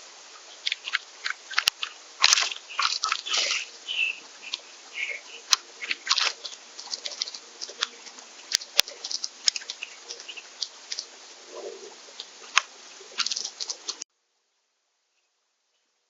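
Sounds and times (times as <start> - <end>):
birds cracking seeds: 0.0 - 14.0
soft bird chirps: 0.4 - 14.0.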